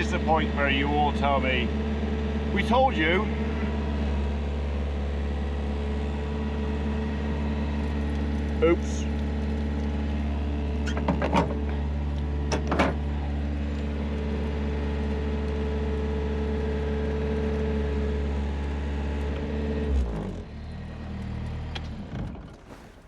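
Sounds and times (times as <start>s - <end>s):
skid steer engine idling: 0.0s - 19.2s, 22.7s - 23.0s.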